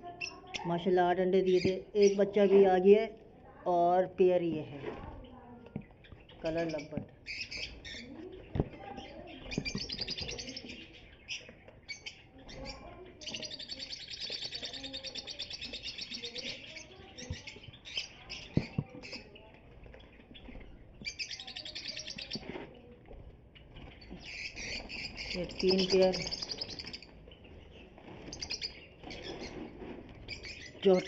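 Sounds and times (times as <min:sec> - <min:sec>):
birds chattering: 0:00.0 - 0:31.0.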